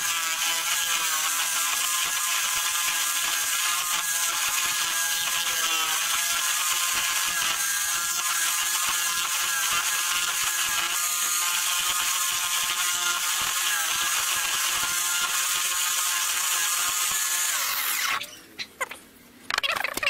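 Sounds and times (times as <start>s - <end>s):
drill winding down: 0.0s - 18.2s
drill boring into wood: 0.0s - 18.3s.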